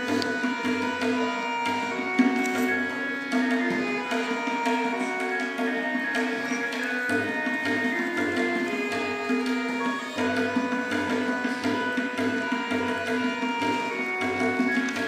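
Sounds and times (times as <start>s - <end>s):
tabla strokes: 0.0s - 15.0s.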